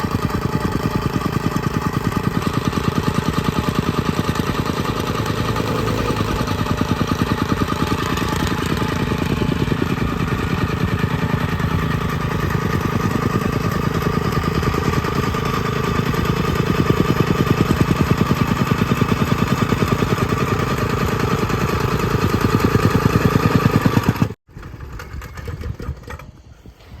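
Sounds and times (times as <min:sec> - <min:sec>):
compactor engine pulsing: 0:00.0 - 0:27.0.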